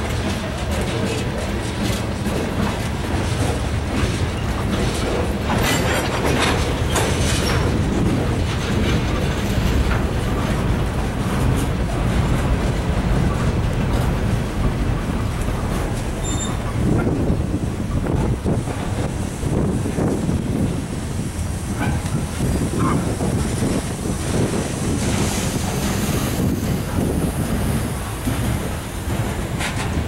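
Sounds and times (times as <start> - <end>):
freight train rumbling past: 0.0 - 30.0
steel wheels clacking over rail: 0.0 - 30.0.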